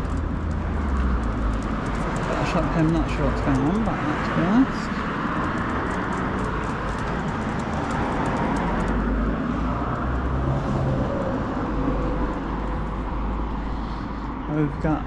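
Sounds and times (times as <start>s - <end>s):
cars passing on road: 0.0s - 15.0s.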